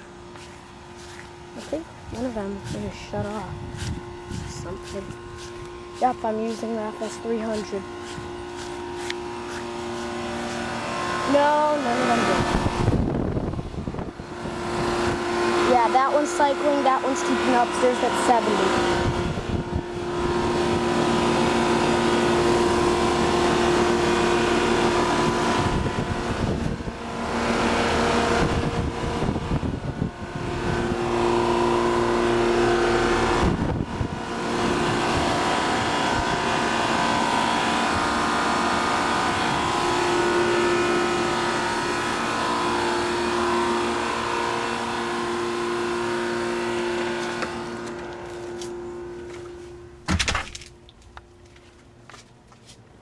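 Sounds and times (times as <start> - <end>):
compressor humming: 0.0 - 53.0
condenser fans rushing: 0.0 - 53.0.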